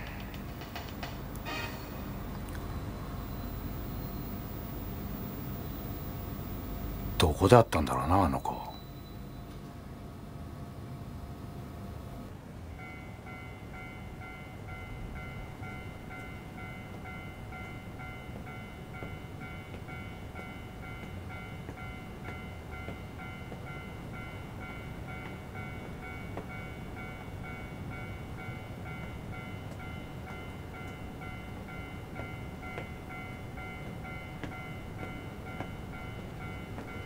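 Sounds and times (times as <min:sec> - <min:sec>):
train passing rumble: 0:00.0 - 0:37.0
level-crossing alarm ringing: 0:01.4 - 0:10.0, 0:12.8 - 0:37.0.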